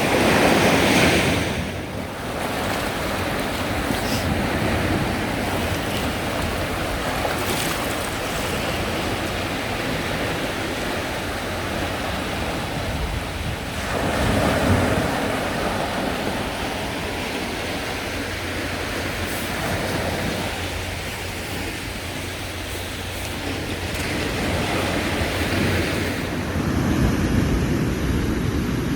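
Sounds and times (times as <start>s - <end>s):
sea waves washing onto shore: 0.0s - 28.9s
wind: 0.0s - 28.9s.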